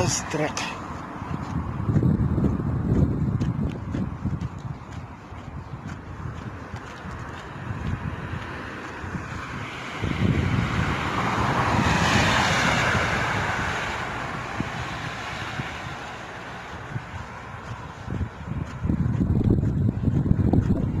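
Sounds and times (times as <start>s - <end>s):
vehicle passing by: 0.0s - 21.0s
wind buffeting microphone: 0.0s - 21.0s.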